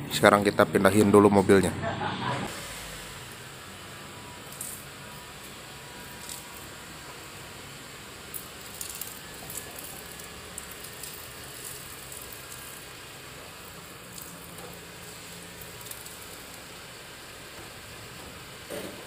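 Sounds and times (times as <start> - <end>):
steady hiss: 2.4 - 19.0.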